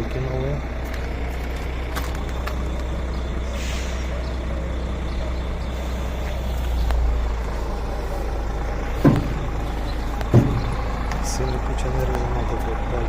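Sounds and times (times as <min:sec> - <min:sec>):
machinery drone: 0:00.0 - 0:13.0.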